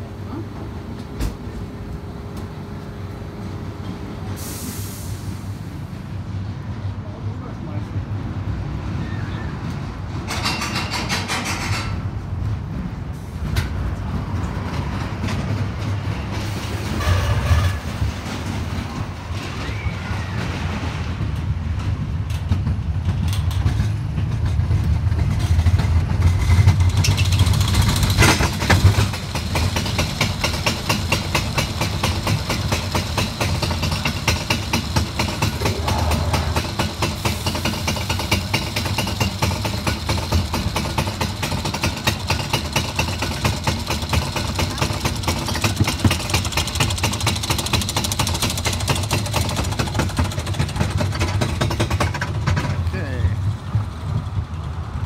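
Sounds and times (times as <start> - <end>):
roller coaster rumbling on track: 0.0 - 55.0.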